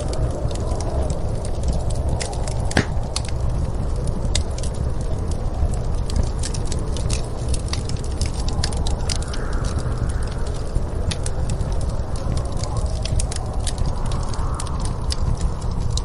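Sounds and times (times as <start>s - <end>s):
low rumble of wind: 0.0s - 16.0s
wood fire crackling and popping: 0.0s - 16.0s.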